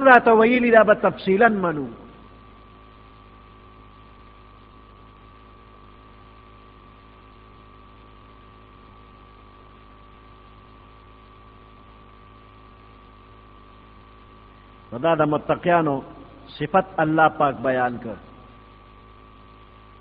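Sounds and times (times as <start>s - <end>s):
electrical hum: 0.0s - 20.0s
faint high whine: 0.0s - 20.0s.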